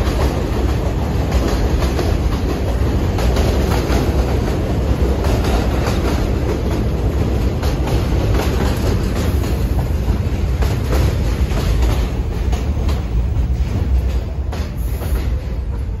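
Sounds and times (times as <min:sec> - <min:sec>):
subway train rumbling past: 0:00.0 - 0:16.0
wheels clicking over rail joints: 0:00.0 - 0:16.0.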